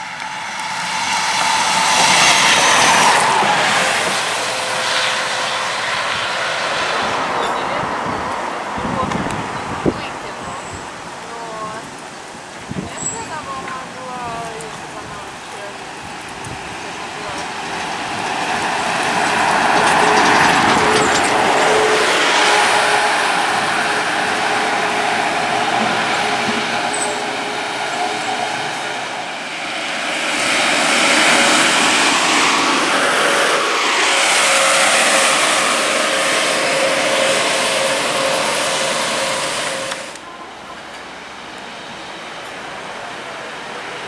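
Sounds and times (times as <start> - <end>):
bus passing by: 0.0 - 44.0
bus pulling away: 0.0 - 44.0.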